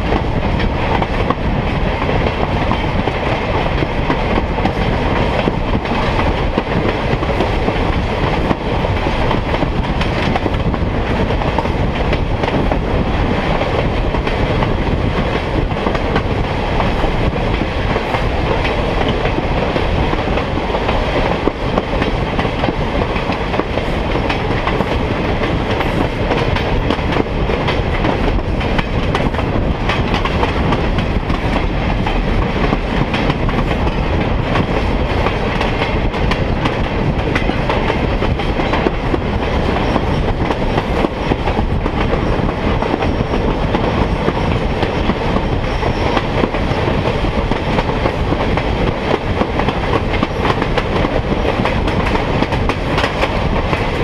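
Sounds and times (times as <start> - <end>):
clickety-clack over rail joints: 0.0 - 54.0
train wheels rumbling on track: 0.0 - 54.0.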